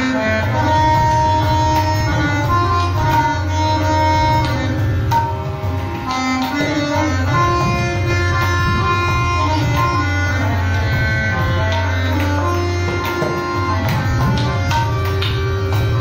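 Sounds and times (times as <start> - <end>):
cajon: 0.0 - 16.0
harmonium melody: 0.0 - 16.0
tabla: 0.0 - 16.0.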